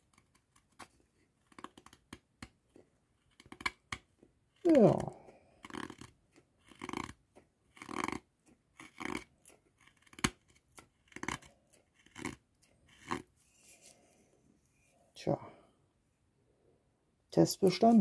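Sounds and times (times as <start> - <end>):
knife scraping wood: 0.0 - 15.0.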